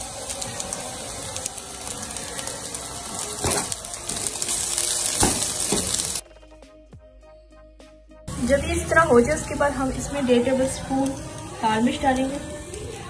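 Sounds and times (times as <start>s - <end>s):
chicken sizzling in oil: 0.0s - 6.2s, 8.3s - 13.0s.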